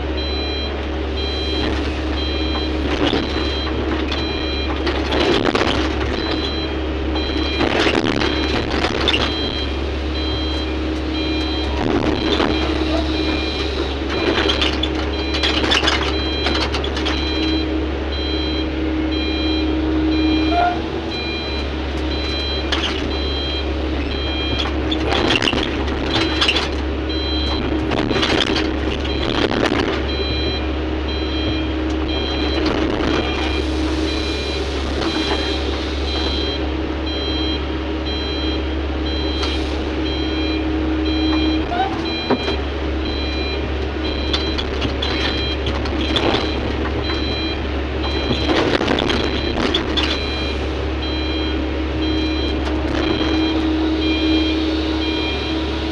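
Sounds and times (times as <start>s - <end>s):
diesel engine humming: 0.0s - 55.9s
warning alarm beeping: 0.1s - 55.9s.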